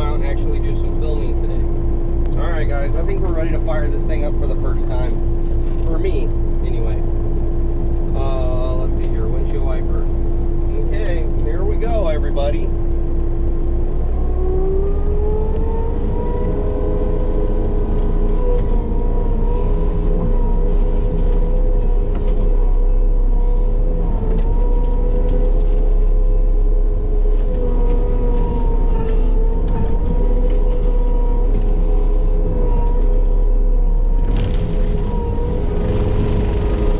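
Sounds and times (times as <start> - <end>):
diesel engine rumble: 0.0 - 36.9
mulching head whine: 0.0 - 36.9.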